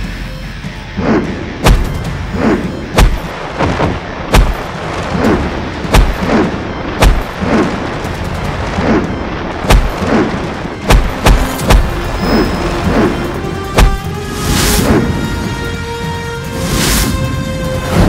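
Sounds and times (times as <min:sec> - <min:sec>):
dramatic soundtrack music: 0:00.0 - 0:18.0
heavy booming blasts: 0:01.1 - 0:16.1.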